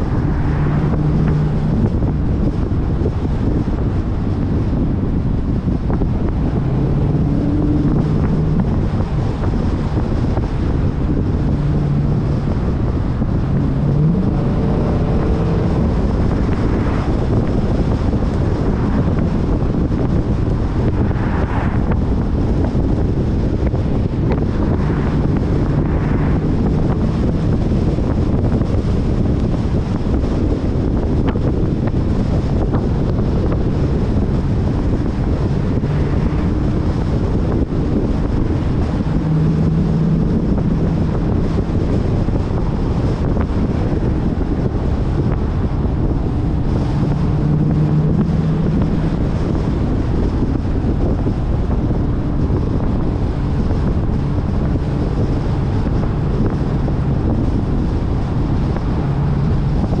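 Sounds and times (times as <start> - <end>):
car engine low hum: 0.0 - 60.0
tyres on wet road: 0.0 - 60.0
wind on microphone: 0.0 - 60.0.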